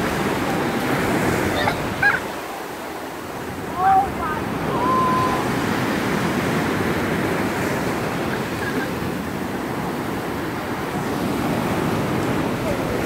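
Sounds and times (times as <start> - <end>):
waves washing over sand: 0.0 - 13.0.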